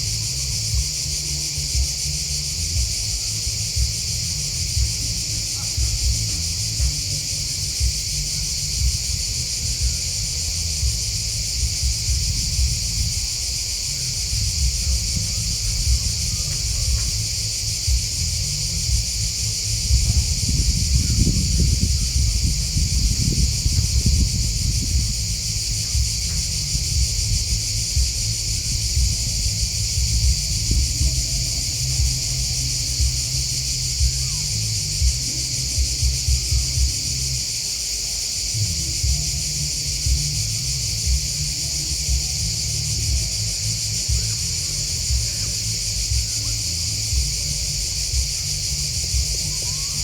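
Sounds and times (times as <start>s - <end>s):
low rumble: 0.0s - 37.5s, 38.5s - 50.0s
grasshoppers and crickets chirping: 0.0s - 50.0s.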